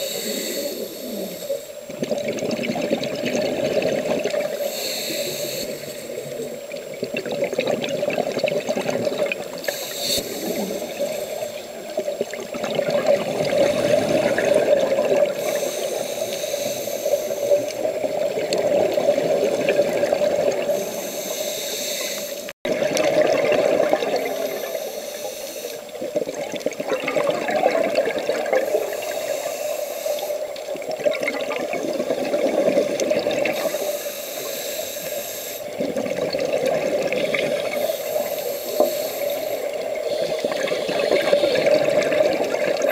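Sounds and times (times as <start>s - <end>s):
underwater regulator bubbles gurgling: 0.0s - 42.9s.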